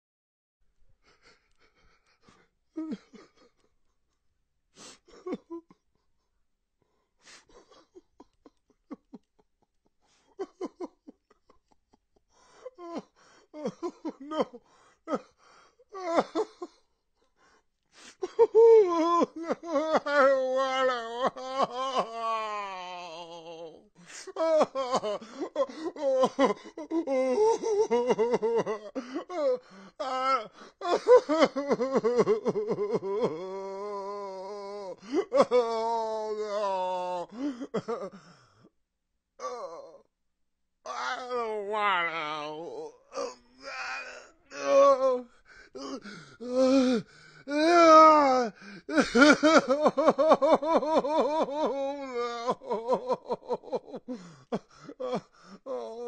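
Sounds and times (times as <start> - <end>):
man crying and sobbing: 1.0 - 3.7, 4.8 - 6.0, 7.2 - 38.7, 39.4 - 40.1, 40.9 - 56.0.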